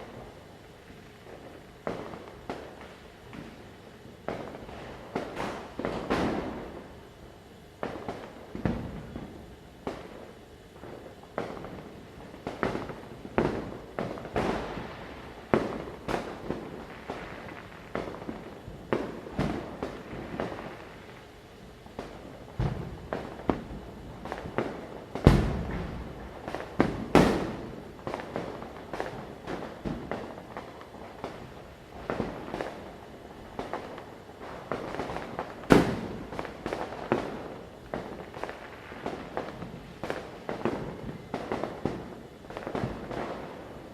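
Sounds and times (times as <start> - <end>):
light crackle: 0.0 - 43.9
firecrackers banging: 1.3 - 7.0, 7.8 - 43.9.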